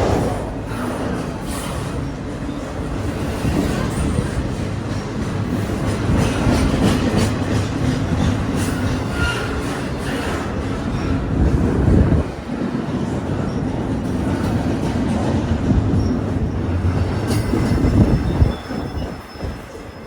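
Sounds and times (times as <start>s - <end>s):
wheel squealing on rail: 0.0s - 12.4s, 13.0s - 20.0s
train cars rumbling past: 0.0s - 20.0s.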